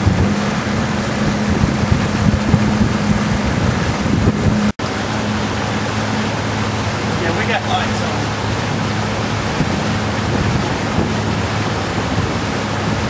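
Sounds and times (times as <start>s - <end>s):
boat motor humming: 0.0s - 13.0s
water noise: 0.0s - 13.0s
wind buffeting microphone: 0.0s - 13.0s.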